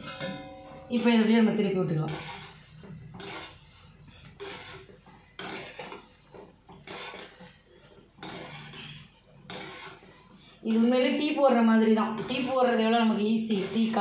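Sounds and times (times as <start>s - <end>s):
oil sizzling: 0.0s - 11.0s, 11.9s - 14.0s
wire skimmer scraping a wok: 0.0s - 11.0s, 12.0s - 14.0s.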